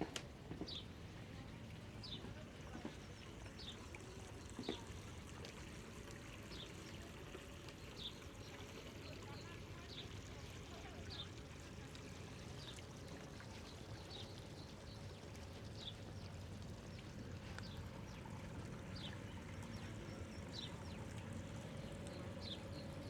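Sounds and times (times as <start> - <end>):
water pouring from waterwheel: 1.0 - 23.0.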